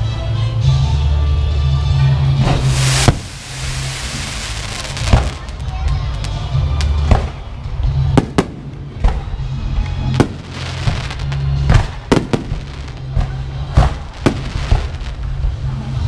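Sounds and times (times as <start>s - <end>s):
music with deep bass: 0.0s - 16.0s
fireworks bangs: 2.4s - 15.6s.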